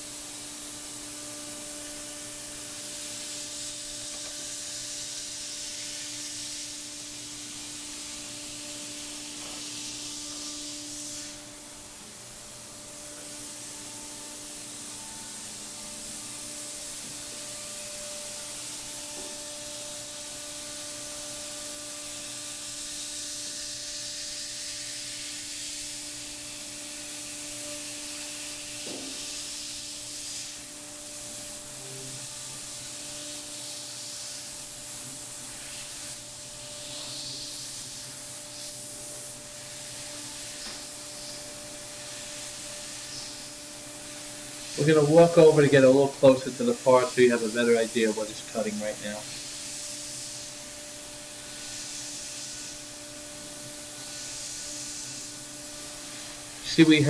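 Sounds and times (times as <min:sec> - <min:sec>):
air blast hissing: 0:00.0 - 0:57.0
cnc router spindle hum: 0:00.0 - 0:57.0.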